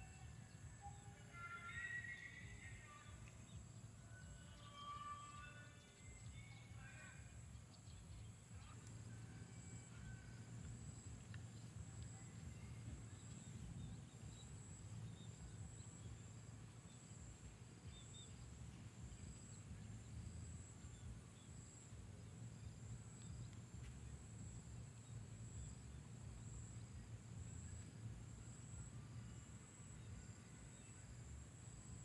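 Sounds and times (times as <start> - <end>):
faint chirps: 0.0 - 32.0
insects trilling: 0.0 - 32.0
low background rumble: 5.7 - 32.0.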